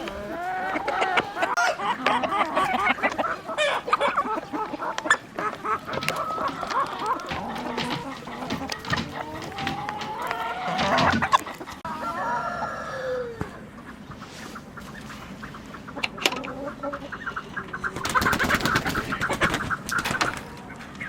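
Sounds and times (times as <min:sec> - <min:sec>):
chicken fast cackling: 0:00.0 - 0:21.0
chickens clucking and calling: 0:00.0 - 0:21.0.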